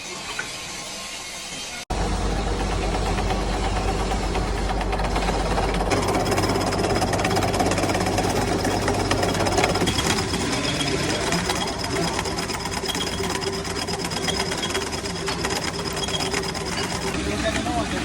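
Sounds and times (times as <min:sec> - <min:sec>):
metalworking machine clatter: 0:00.0 - 0:18.0
deep machine hum: 0:01.9 - 0:18.0.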